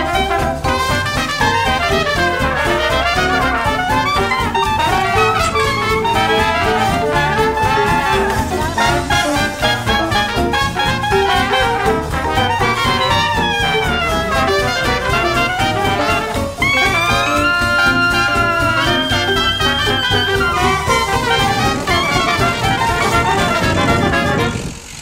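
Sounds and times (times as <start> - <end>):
upbeat jazz with brass: 0.0 - 24.9.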